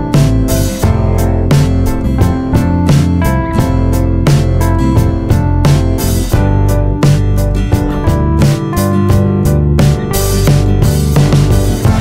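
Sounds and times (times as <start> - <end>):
music with plucked strings: 0.0 - 12.0.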